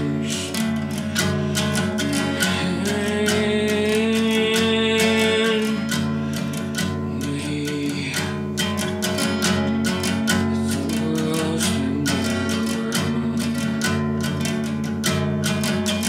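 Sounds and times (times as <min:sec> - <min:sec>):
guitar chords and picked notes: 0:00.0 - 0:16.0.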